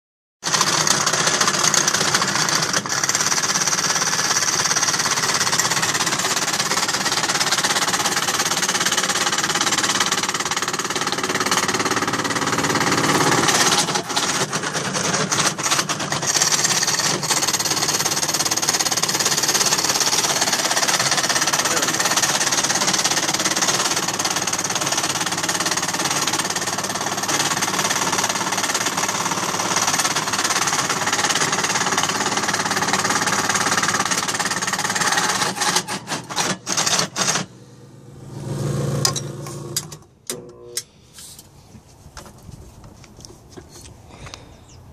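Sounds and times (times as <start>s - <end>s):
wire stripping machine running: 0.4s - 40.9s.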